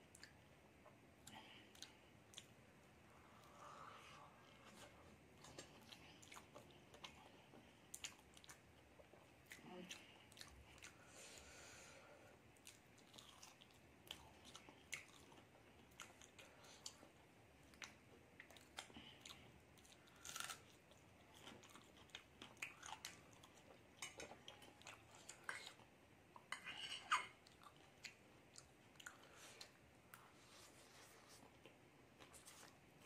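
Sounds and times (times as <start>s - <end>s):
chewing and crunching food: 0.0s - 11.5s, 12.3s - 33.0s.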